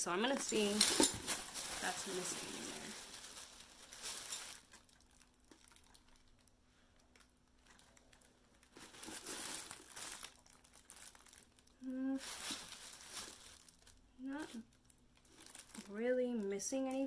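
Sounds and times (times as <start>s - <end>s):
packing paper rustling: 0.2s - 16.4s.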